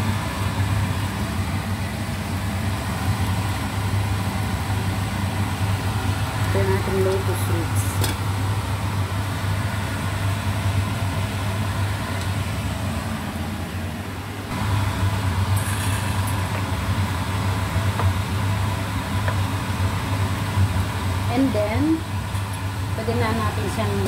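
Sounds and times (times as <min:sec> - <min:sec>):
broth boiling: 0:00.0 - 0:24.0
cooktop hum and fan whir: 0:00.0 - 0:24.0.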